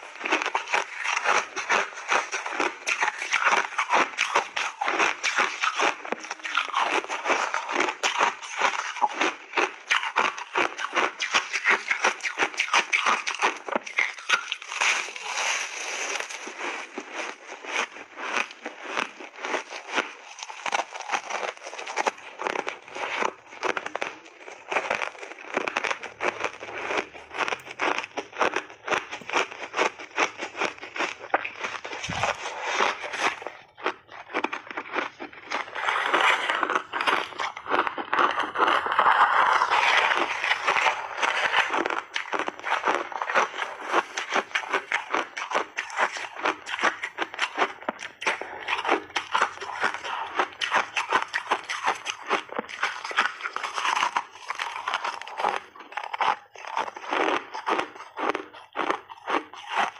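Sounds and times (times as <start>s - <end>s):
ice crunching while chewing: 0.0s - 59.9s.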